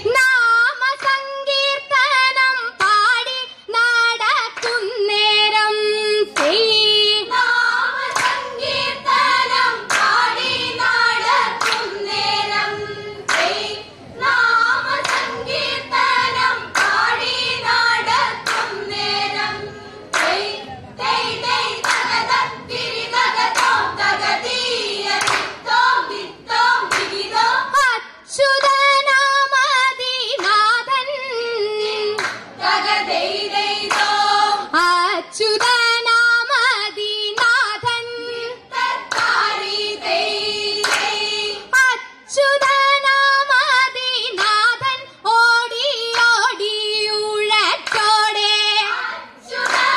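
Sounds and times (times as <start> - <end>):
girls singing boat song: 0.0 - 49.9
rhythmic hand claps: 0.2 - 1.4, 2.3 - 5.6, 6.2 - 27.8, 28.4 - 42.0, 42.6 - 49.9.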